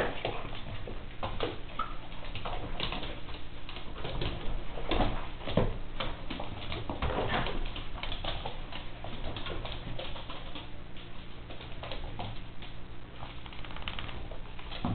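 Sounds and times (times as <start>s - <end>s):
dog claws clicking on floor: 0.0s - 14.9s.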